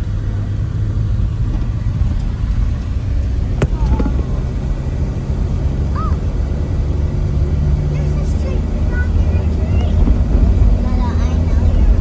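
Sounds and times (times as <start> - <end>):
vehicle rumble from inside cabin: 0.0 - 12.0.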